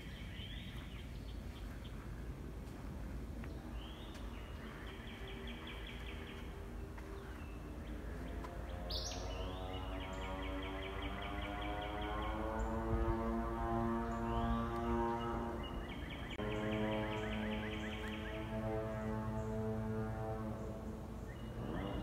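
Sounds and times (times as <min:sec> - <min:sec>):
birds singing trills: 0:00.0 - 0:02.3, 0:03.4 - 0:22.0
low outdoor rumble: 0:00.0 - 0:22.0
engine drone: 0:01.8 - 0:22.0.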